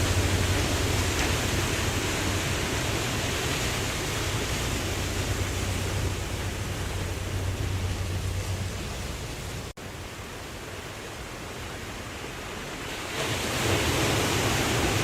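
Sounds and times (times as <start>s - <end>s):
ocean surf with deep rumble: 0.0s - 15.0s.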